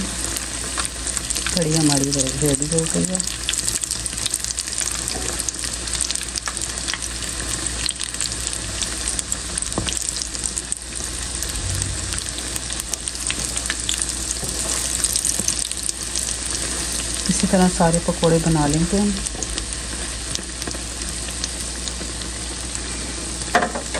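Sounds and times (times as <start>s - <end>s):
deep-frying sizzle with crackling pops: 0.0s - 23.9s.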